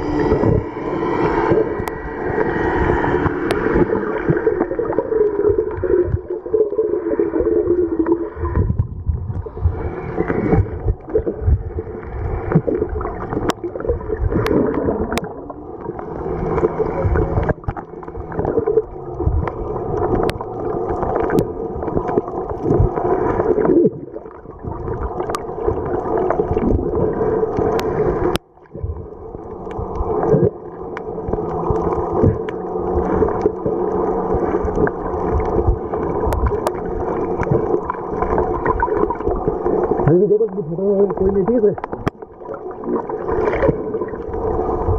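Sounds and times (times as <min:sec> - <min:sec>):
steady droning hum: 0:00.0 - 0:44.9
water swishing underwater: 0:00.0 - 0:44.9.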